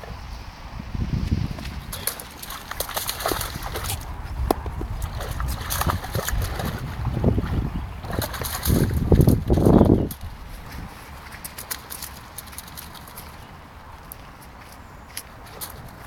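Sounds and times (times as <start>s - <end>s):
dog splashing through water: 1.5s - 14.2s, 15.1s - 16.0s.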